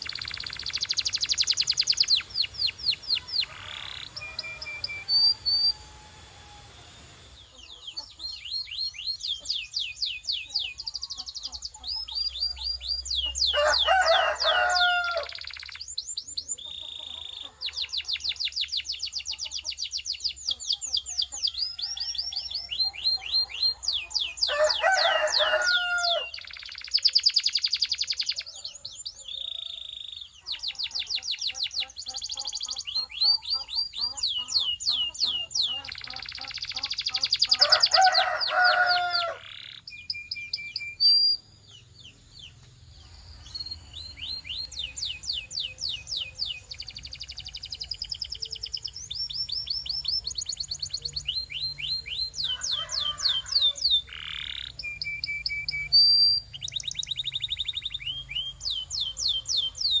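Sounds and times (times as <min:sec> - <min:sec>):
canary singing: 0:00.0 - 1:00.0.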